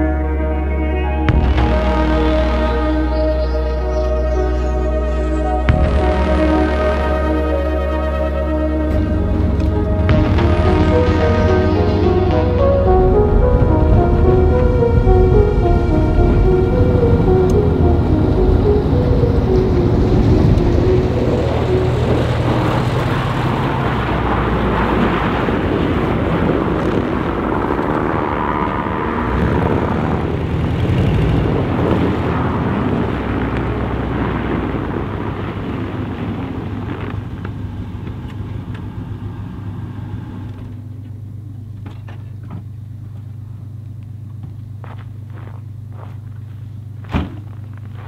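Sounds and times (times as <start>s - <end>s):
low hum: 0.0s - 48.0s
van engine and road noise: 0.0s - 48.0s.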